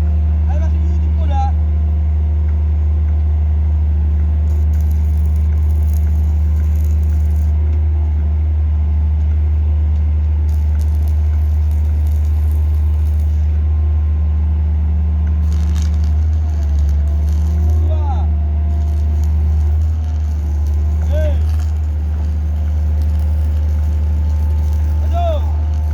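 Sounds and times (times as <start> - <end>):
pile driver engine droning: 0.0 - 25.9.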